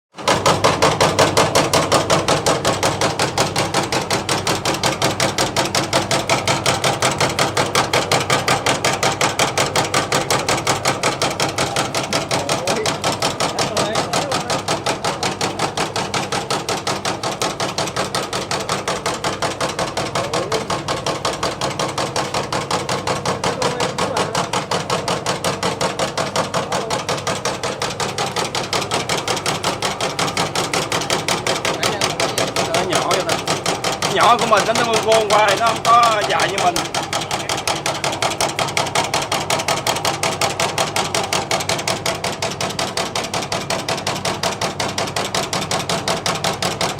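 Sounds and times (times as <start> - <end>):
machine blade chopping rapidly: 0.1 - 46.9.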